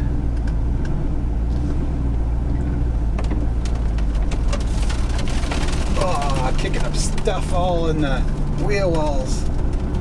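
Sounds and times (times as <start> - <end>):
car engine and road noise drone: 0.0 - 10.0.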